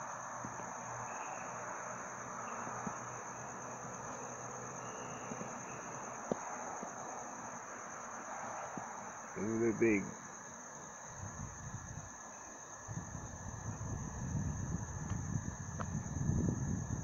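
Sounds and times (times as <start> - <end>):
background hiss: 0.0 - 16.9
crickets chirping: 0.0 - 17.0.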